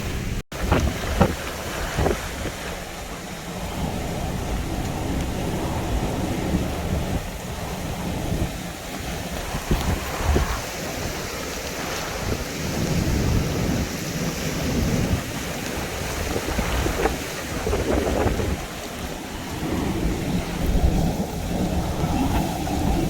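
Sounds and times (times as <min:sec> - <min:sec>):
heavy rain: 0:00.0 - 0:23.0
wind buffeting microphone: 0:00.0 - 0:23.0.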